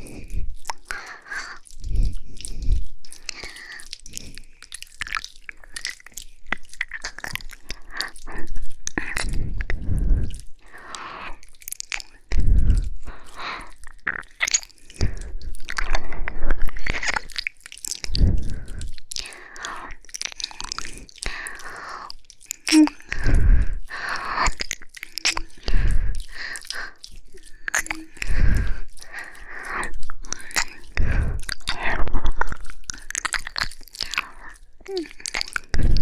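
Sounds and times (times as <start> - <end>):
wet mouth smacks and clicks: 0.0 - 36.0.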